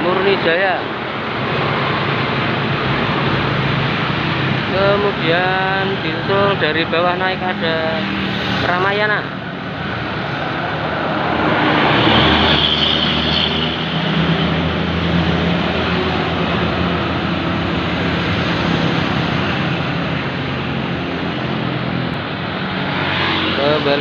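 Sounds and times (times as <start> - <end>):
bus diesel engine under load: 0.0 - 22.9, 23.6 - 24.0.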